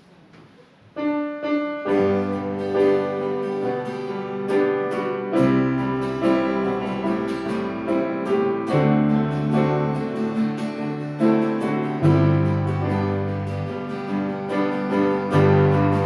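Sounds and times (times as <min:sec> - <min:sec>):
instrumental hymn music: 0:01.0 - 0:16.0.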